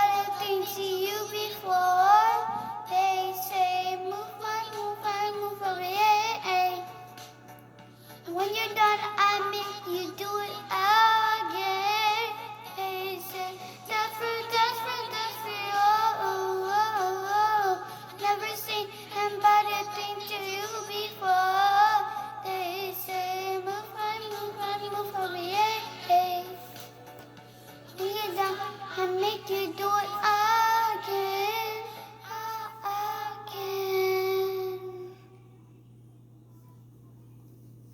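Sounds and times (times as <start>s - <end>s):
girl singing: 0.0s - 7.2s, 8.2s - 26.9s, 27.9s - 35.4s
faint steady hum: 0.0s - 37.9s.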